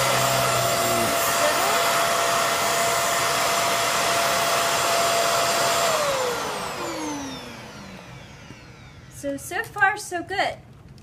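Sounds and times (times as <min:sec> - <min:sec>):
vacuum cleaner whining: 0:00.0 - 0:10.0.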